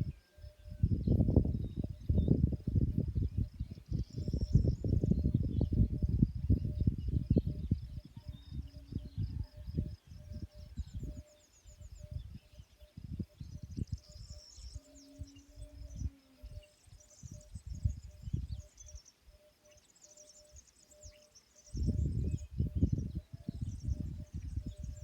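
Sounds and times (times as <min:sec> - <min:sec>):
birds twittering: 0:03.2 - 0:25.0.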